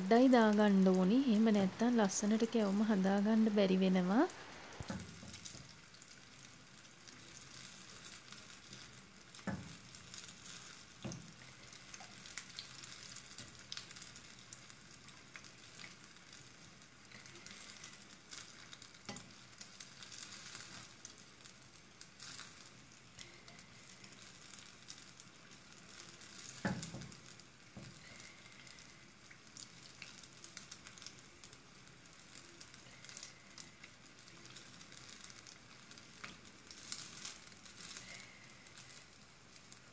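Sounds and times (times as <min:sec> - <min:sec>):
batter sizzling in hot oil: 0:00.0 - 0:39.9.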